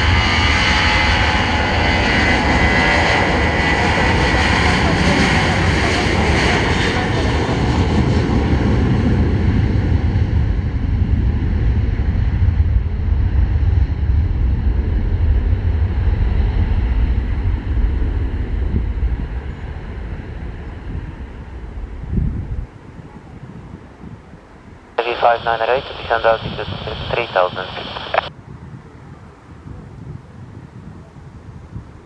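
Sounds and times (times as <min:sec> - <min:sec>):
jet engine whine: 0:00.0 - 0:29.6
airliner engines rumbling: 0:00.0 - 0:32.0.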